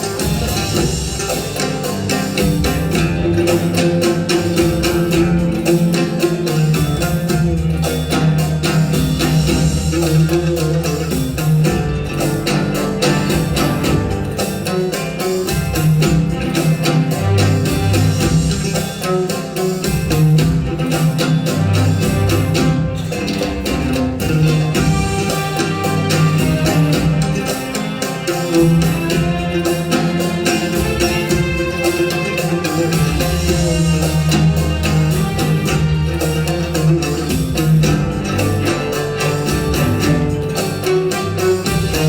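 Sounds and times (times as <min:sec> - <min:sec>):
hand drum percussion: 0:00.0 - 0:42.0
oud playing melody: 0:00.0 - 0:42.0.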